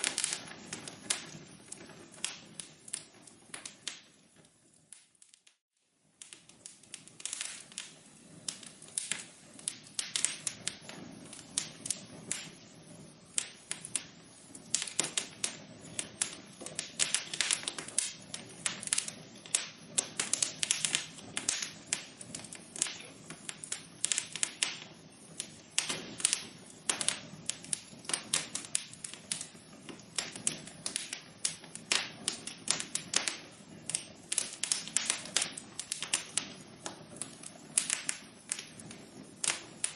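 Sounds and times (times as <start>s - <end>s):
low hiss: 0.0s - 39.9s
wood fire crackling: 0.0s - 39.9s.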